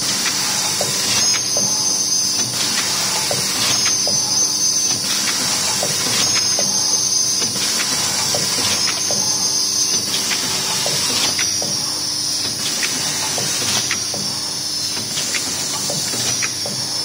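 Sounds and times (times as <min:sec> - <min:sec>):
pneumatic machine clicks and knocks: 0:00.0 - 0:17.0.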